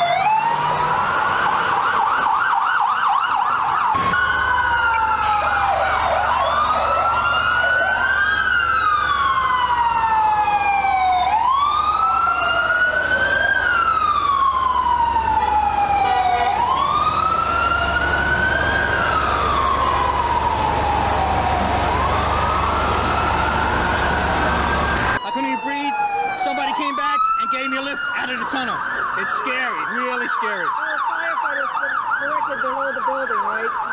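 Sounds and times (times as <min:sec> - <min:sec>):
emergency sirens wailing: 0:00.0 - 0:33.9.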